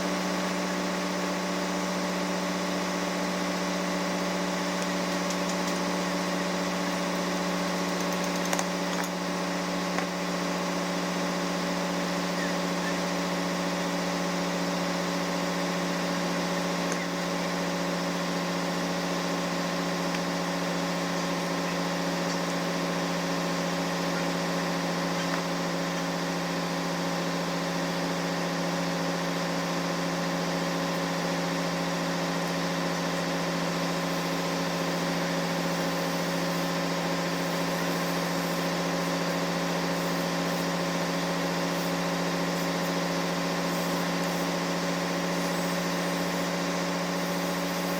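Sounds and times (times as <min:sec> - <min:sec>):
diesel machinery droning: 0:00.0 - 0:47.9.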